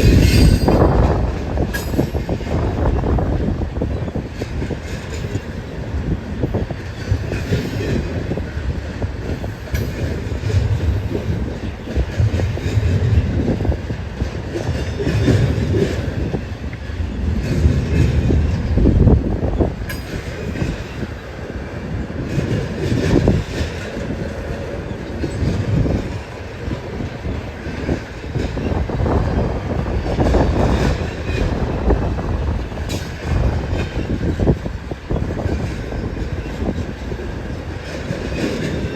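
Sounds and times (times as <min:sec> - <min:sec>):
train cars rumbling on rails: 0:00.0 - 0:38.9.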